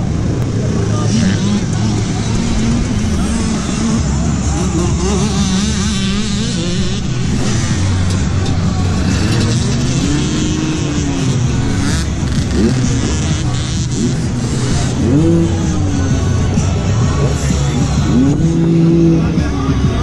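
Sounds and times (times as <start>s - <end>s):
dirt bike engines idling: 0.0s - 20.0s
dirt bike revving: 0.0s - 20.0s.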